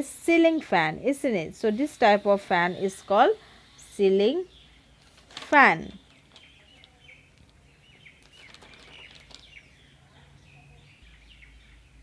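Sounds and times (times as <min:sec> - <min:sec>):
faint bird chirps: 0:01.5 - 0:12.0.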